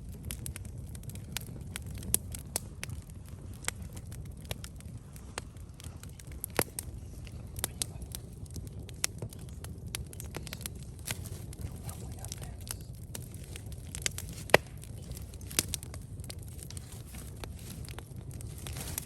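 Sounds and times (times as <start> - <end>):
campfire crackling and popping: 0.0 - 19.0
low rumble of burning fire: 0.0 - 19.0.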